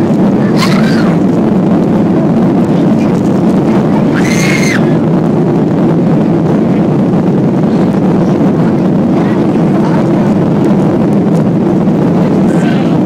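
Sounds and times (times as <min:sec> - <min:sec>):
airplane cabin roar: 0:00.0 - 0:13.0.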